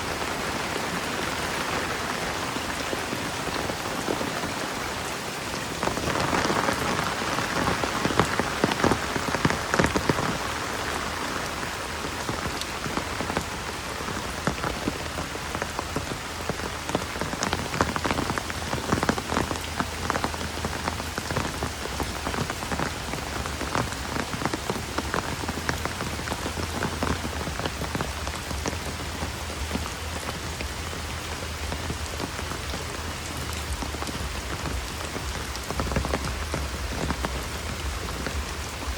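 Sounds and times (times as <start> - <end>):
raindrops hitting close by: 0.0 - 38.9
steady rain falling: 0.0 - 38.9.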